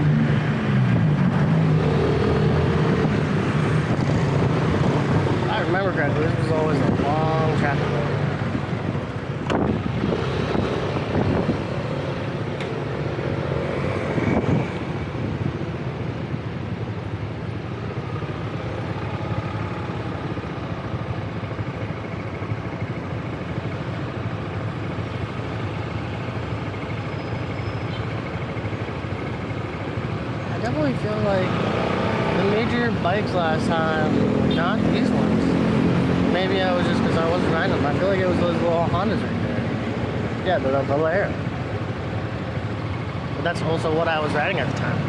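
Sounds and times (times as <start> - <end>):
scooter and car traffic: 0.0 - 45.0.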